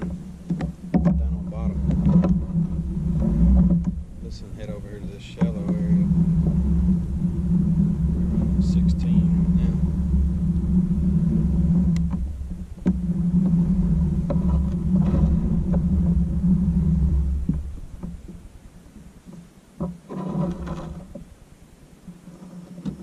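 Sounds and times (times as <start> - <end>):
pedal drive humming: 0.0 - 23.0.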